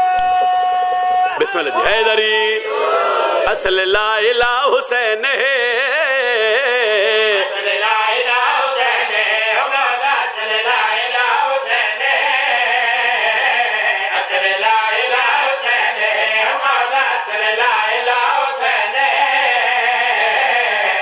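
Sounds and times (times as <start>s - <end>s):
men chanting together: 1.5s - 21.0s.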